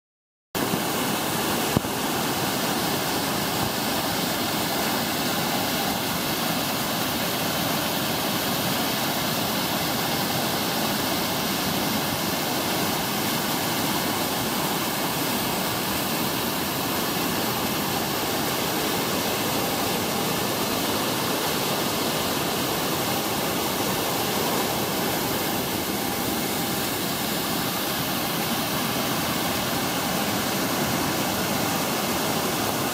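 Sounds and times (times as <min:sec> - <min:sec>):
waterfall rushing: 0:00.6 - 0:32.9.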